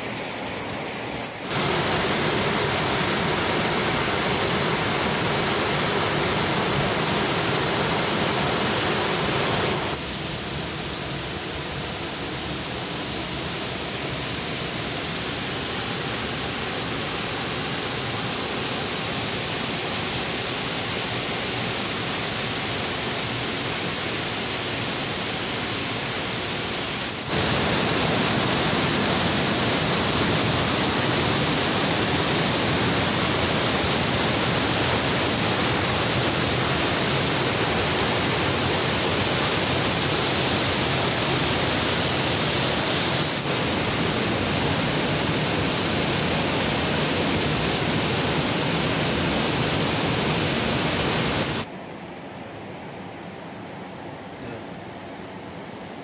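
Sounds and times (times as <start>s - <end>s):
waterfall and stream rushing: 0.0s - 51.7s.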